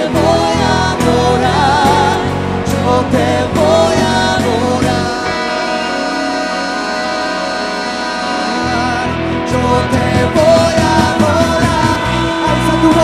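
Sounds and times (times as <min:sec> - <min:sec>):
electric guitar: 0:00.0 - 0:13.0
keyboard: 0:00.0 - 0:13.0
person singing: 0:00.0 - 0:13.0
pulsing bass line: 0:00.0 - 0:13.0.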